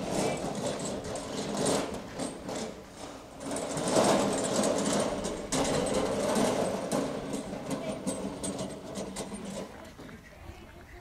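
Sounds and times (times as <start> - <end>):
metal wheelbarrow rattling: 0.0 - 10.2.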